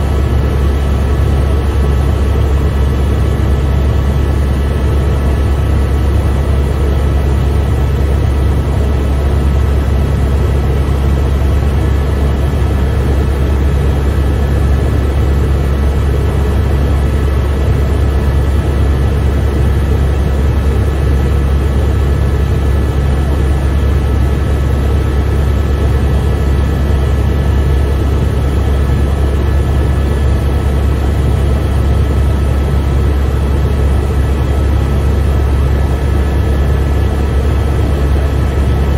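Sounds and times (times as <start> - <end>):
helicopter rotor drone: 0.0 - 38.9.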